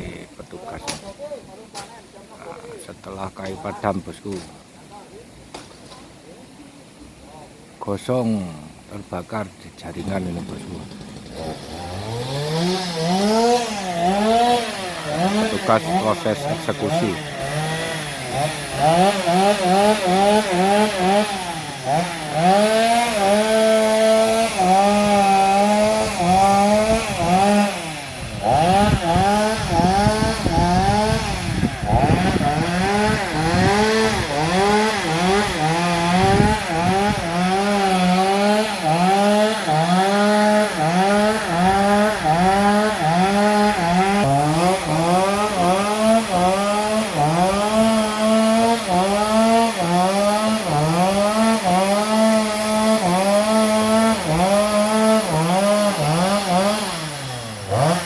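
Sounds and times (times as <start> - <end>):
chainsaw cutting wood: 0.8 - 1.1, 9.9 - 58.0.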